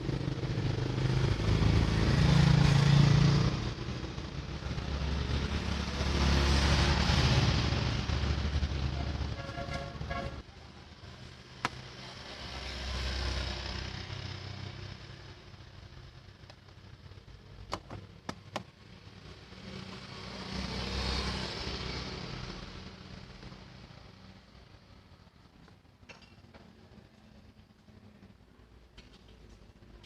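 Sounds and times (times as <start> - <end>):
road vehicles passing by: 0.0 - 30.0.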